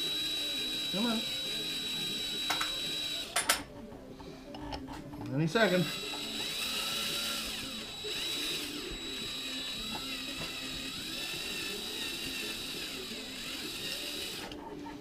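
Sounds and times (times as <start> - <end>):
electric drill whining: 0.0 - 3.4, 5.6 - 14.6.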